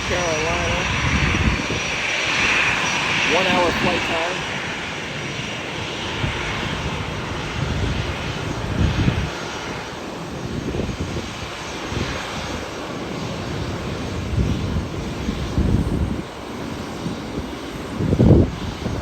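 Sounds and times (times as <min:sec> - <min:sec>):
jet plane landing: 0:00.0 - 0:19.0.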